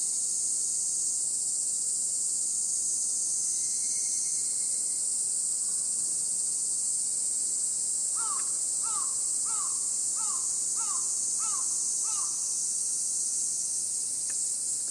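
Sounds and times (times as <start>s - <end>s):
high-pitched insect chorus: 0.0s - 14.9s.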